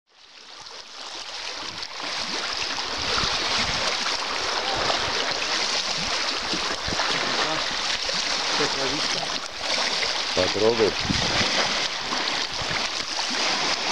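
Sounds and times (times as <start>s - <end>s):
water lapping among rocks: 0.2s - 13.9s.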